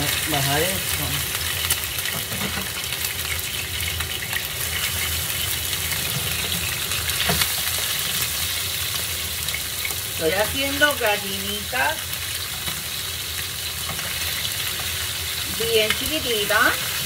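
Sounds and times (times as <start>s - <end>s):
meat sizzling in oil: 0.0s - 17.0s.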